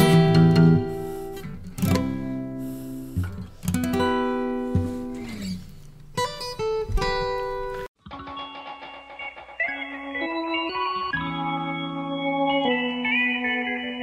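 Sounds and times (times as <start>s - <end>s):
guitar chords ringing: 0.0s - 14.0s.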